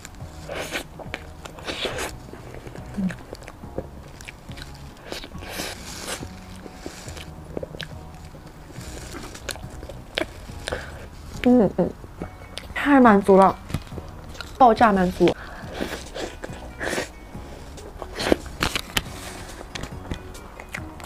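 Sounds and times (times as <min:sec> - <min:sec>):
biting and chewing soft cake: 0:00.0 - 0:11.6, 0:13.4 - 0:21.0.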